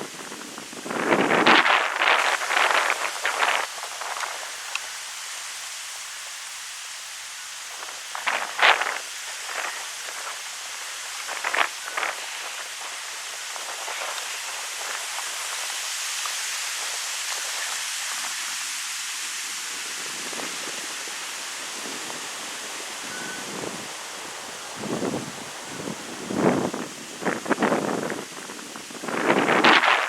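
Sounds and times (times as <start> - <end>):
wind blowing through trees: 0.0 - 30.0.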